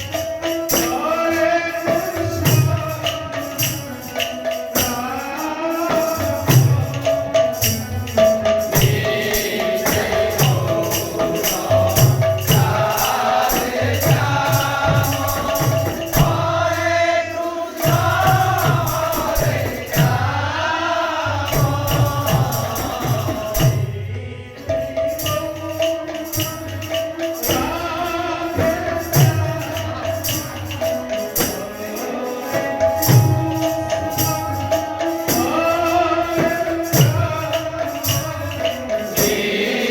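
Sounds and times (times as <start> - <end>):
drum strokes: 0.0 - 39.9
group devotional singing: 0.0 - 39.9
jingling metal percussion: 0.0 - 39.9.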